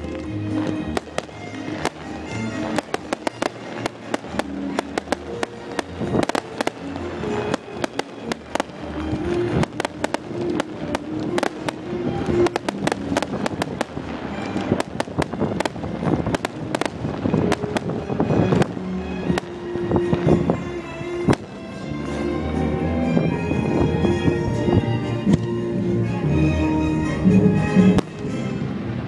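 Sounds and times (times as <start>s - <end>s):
fireworks bangs and crackles: 0.0s - 25.6s, 27.2s - 29.0s
music playing: 0.0s - 29.0s.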